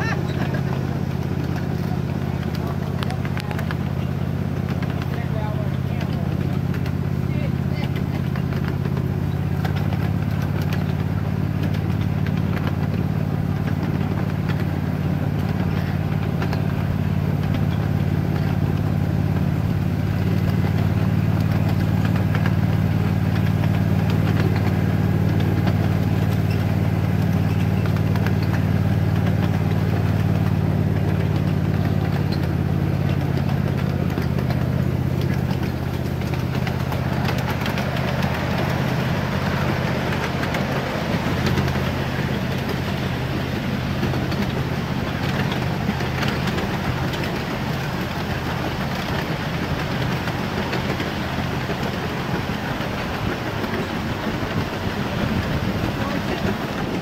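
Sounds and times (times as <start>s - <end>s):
locomotive engine droning: 0.0s - 57.0s
miniature train on track: 0.0s - 57.0s.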